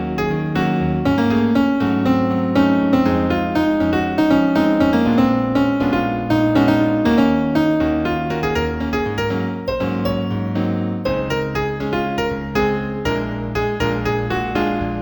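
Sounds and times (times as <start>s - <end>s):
new-age piano piece: 0.0s - 15.0s.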